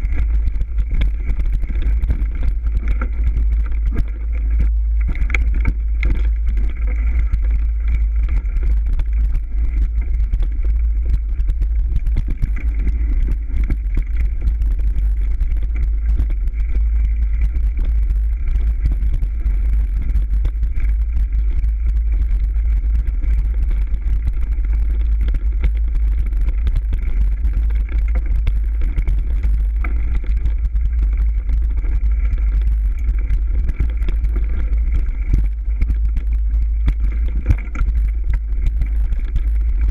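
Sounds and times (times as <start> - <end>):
bike rattling and knocking: 0.0 - 39.9
wind rumble on microphone: 0.0 - 39.9.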